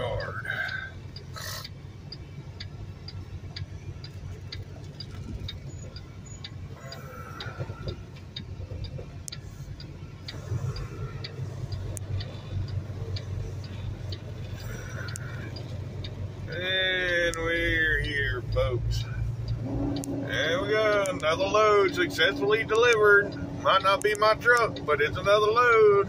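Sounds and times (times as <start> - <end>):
diesel engine low hum: 0.0 - 26.0
turn signal clicking: 0.0 - 26.0.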